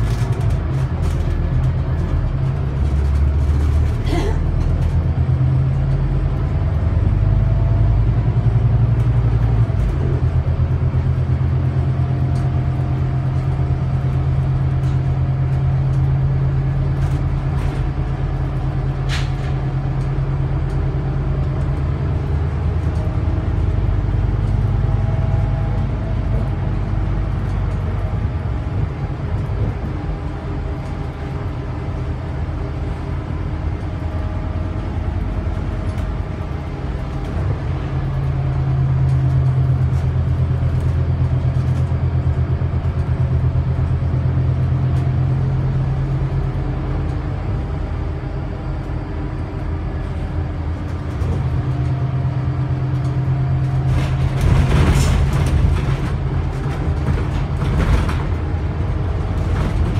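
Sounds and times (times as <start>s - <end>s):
bus diesel engine running: 0.0s - 59.9s
road noise: 0.0s - 59.9s.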